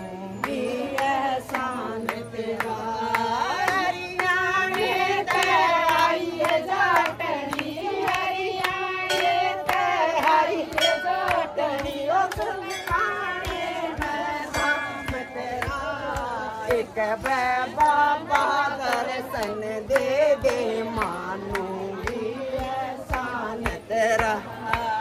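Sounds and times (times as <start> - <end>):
devotional singing: 0.0 - 25.0
rhythmic hand-clapping: 0.0 - 25.0.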